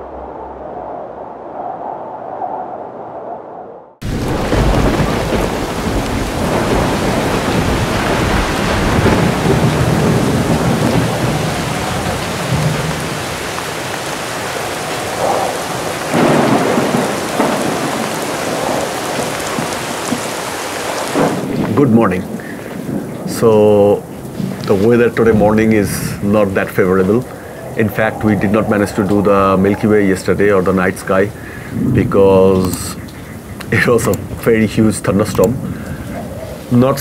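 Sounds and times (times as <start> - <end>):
thunder rumbling: 0.0 - 37.0
heavy rain falling: 4.0 - 37.0.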